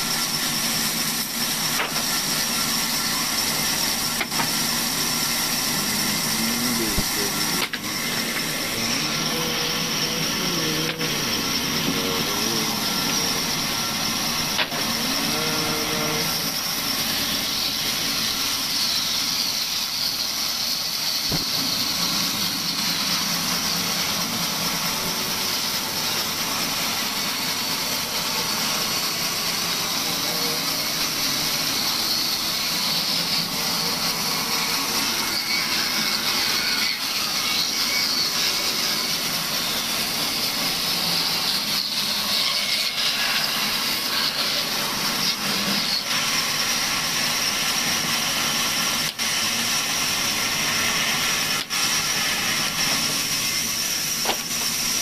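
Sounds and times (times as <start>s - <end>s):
band saw cutting wood: 0.0s - 55.0s.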